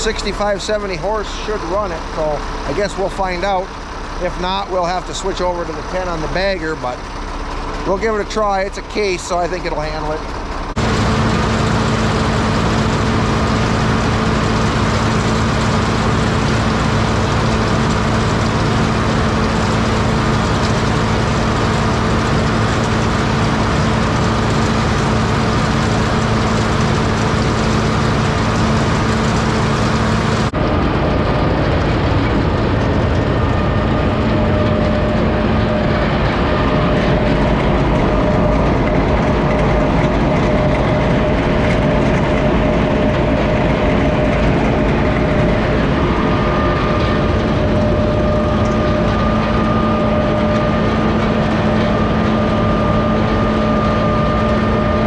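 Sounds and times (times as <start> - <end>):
farm machinery drone: 0.0 - 55.0.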